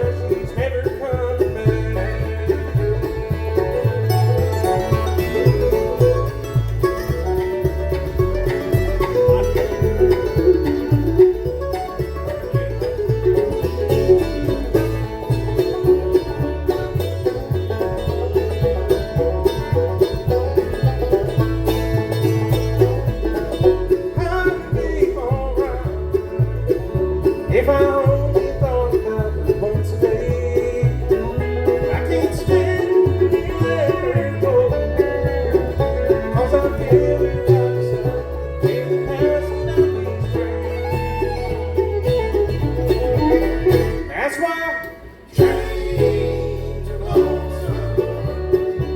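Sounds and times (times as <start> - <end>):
banjo: 0.0 - 48.9
bluegrass band playing: 0.0 - 48.9.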